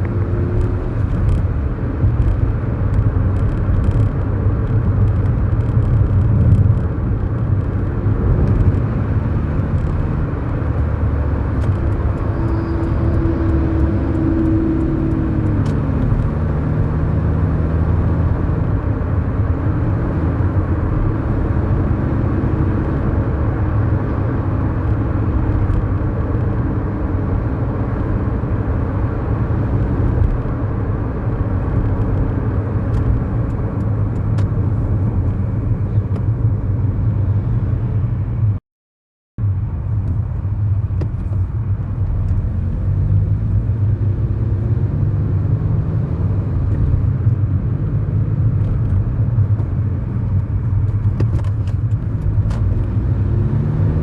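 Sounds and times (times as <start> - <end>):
car engine and road noise: 0.0 - 38.6, 39.4 - 54.0.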